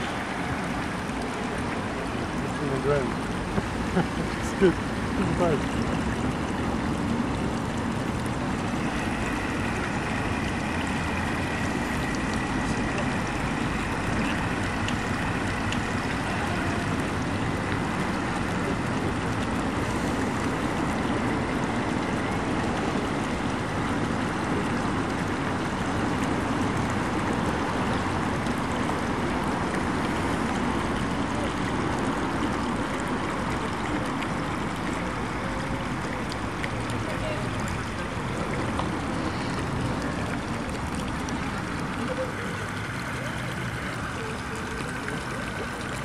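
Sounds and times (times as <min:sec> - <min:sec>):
rippling pond water: 0:00.0 - 0:46.0
wind: 0:00.0 - 0:46.0.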